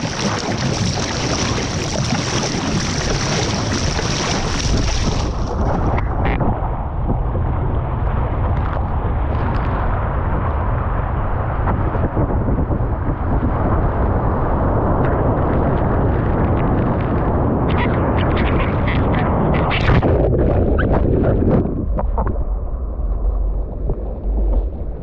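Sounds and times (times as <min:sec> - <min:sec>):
water rushing: 0:00.0 - 0:12.2, 0:12.9 - 0:25.0
wind buffeting microphone: 0:00.0 - 0:25.0.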